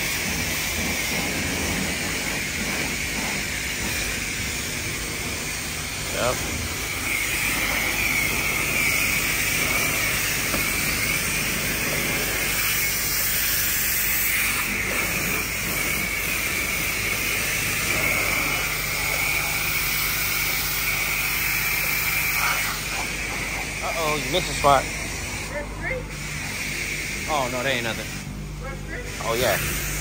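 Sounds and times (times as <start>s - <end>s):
pressure washer spraying: 0.0s - 30.0s
pump hum: 0.0s - 30.0s.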